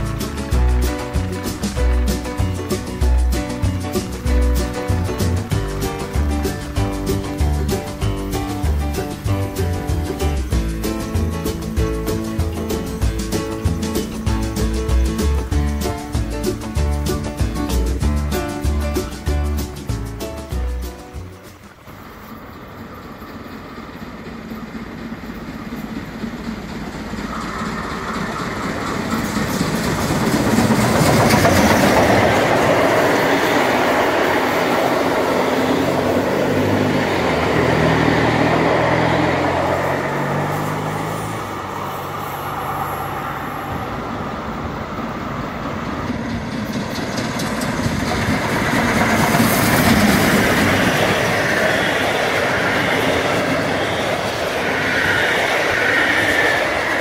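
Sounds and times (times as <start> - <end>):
wheels clattering over rail joints: 0.0 - 41.9, 45.1 - 57.0
steam train passing: 0.0 - 57.0.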